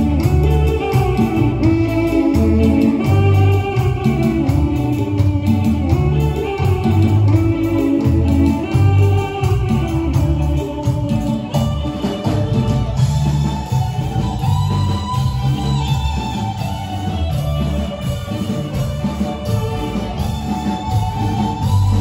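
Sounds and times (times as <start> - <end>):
live band playing instrumental: 0.0 - 22.0.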